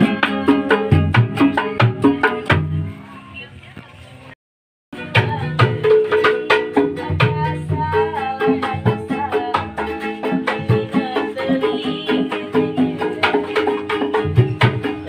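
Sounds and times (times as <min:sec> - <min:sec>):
hand percussion beat: 0:00.0 - 0:02.8, 0:05.0 - 0:15.0
plucked string melody: 0:00.0 - 0:03.2, 0:05.0 - 0:15.0.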